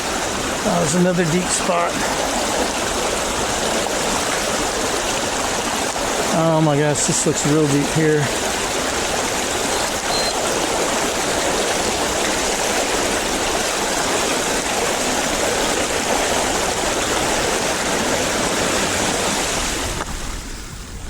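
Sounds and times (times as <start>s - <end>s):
floodwater washing around wheels: 0.0s - 21.0s.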